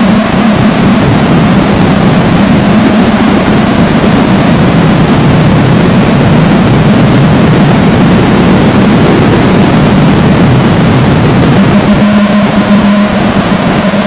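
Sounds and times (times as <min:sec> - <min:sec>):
engine running steadily: 0:00.0 - 0:14.0
loud rushing noise: 0:00.0 - 0:14.0.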